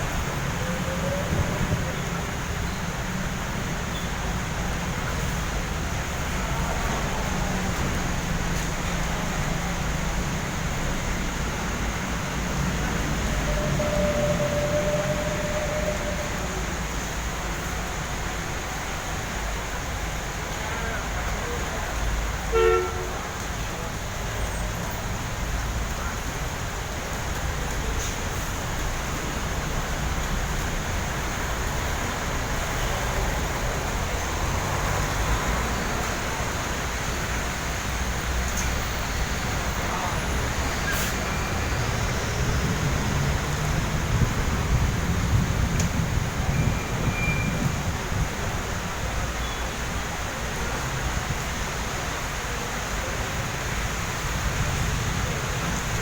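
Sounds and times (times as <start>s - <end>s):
rain falling: 0.0s - 56.0s
road traffic: 0.0s - 56.0s.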